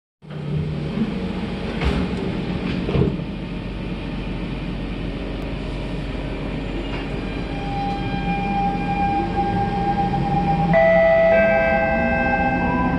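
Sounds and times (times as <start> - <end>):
train interior hum: 0.2 - 12.9.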